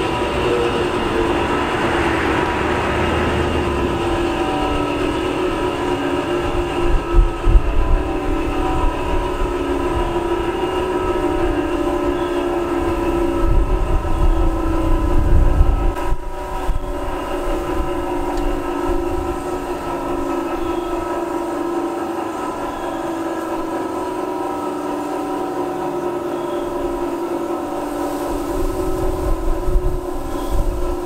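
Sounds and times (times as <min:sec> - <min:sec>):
diesel locomotives idling: 0:00.0 - 0:31.0
wind buffeting microphone: 0:00.0 - 0:31.0.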